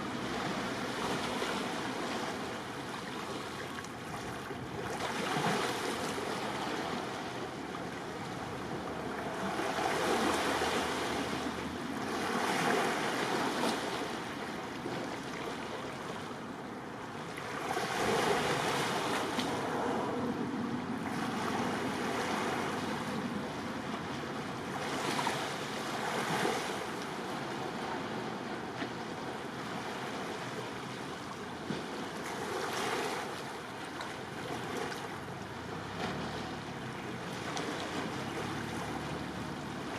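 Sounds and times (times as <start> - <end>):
sea waves washing in: 0.0 - 39.9
wind: 0.0 - 39.9.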